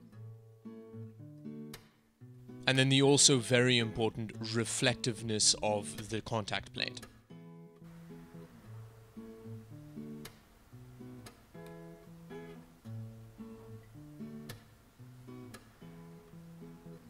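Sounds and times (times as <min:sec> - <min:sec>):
guitar plucking and strumming: 0:00.0 - 0:17.0.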